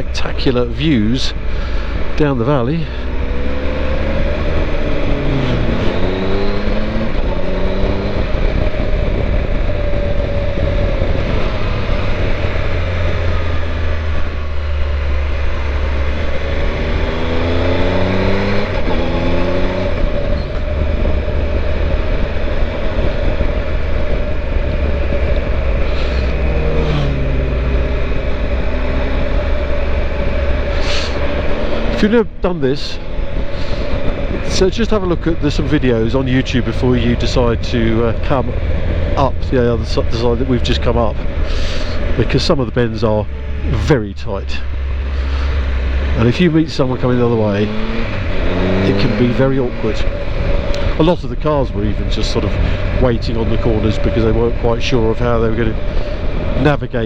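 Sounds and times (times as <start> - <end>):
motorcycle engine changing gears: 0.0 - 57.0
wind rush on microphone: 0.0 - 57.0.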